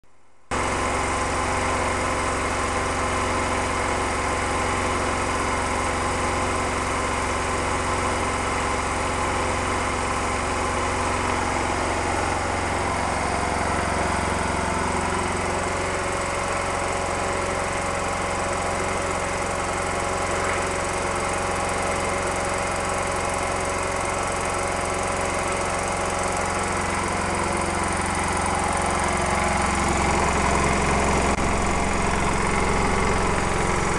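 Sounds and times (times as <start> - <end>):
air compressor pulsing: 0.5 - 33.9.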